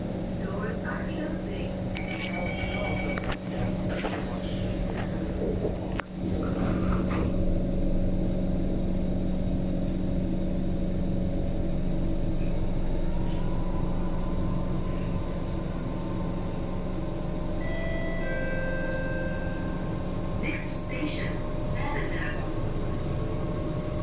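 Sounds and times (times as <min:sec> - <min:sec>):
train hum: 0:00.0 - 0:24.0
train traction whine: 0:00.0 - 0:24.0.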